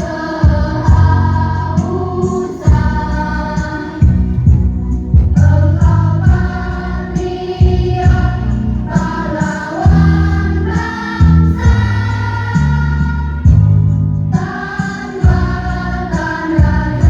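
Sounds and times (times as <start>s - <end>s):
choir singing: 0.0s - 4.2s, 5.4s - 17.0s
accompaniment with low beat: 0.0s - 17.0s.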